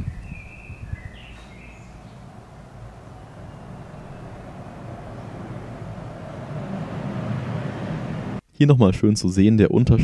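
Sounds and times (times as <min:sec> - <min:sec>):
outdoor background noise: 0:00.0 - 0:08.6.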